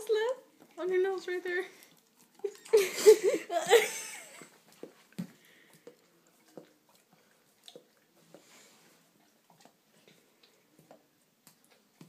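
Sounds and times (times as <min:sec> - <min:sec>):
dog licking and lip-smacking: 0:00.0 - 0:03.1, 0:04.3 - 0:12.0.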